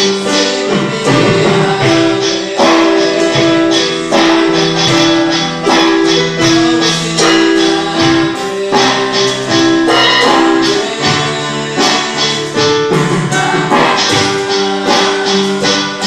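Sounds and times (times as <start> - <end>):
electric bass line: 0.0 - 16.0
electronic drum beat: 0.0 - 16.0
keyboard chords: 0.0 - 16.0.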